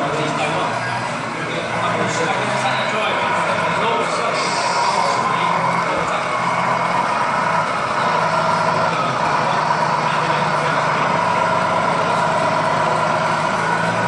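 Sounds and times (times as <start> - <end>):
motor whine: 0.0 - 14.0
toy truck engine drone: 0.0 - 14.0.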